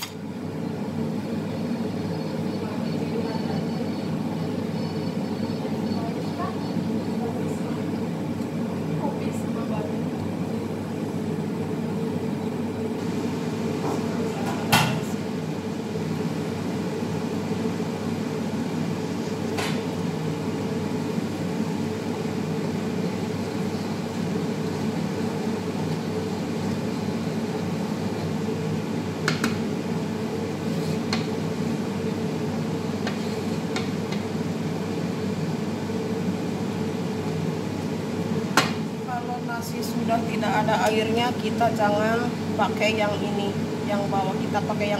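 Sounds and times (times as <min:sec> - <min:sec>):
kitchen equipment drone: 0:00.0 - 0:44.9.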